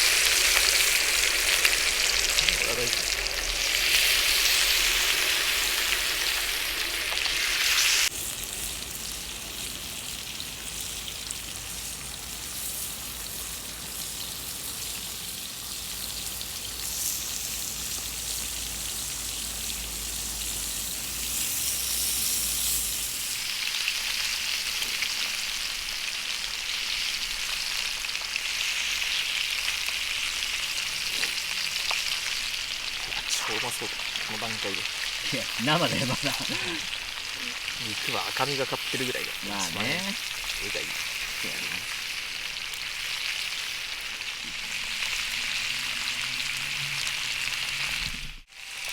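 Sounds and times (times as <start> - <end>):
pork sizzling and spitting fat: 0.0 - 48.9.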